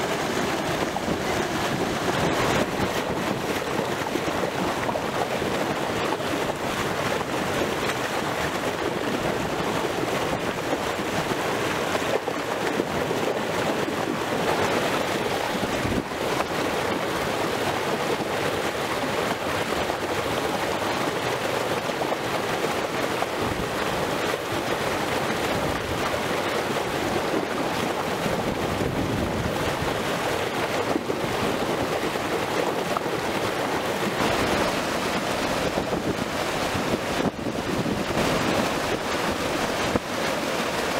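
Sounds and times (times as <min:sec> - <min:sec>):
water rushing over concrete step: 0:00.0 - 0:40.9.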